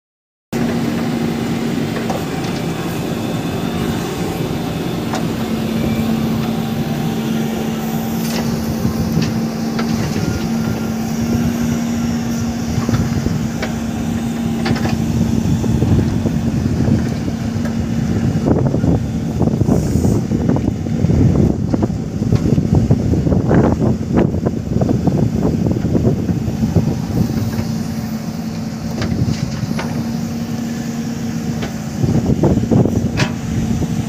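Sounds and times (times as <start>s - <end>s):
diesel engine running under load: 0.5s - 34.0s
engine whine: 0.5s - 34.0s.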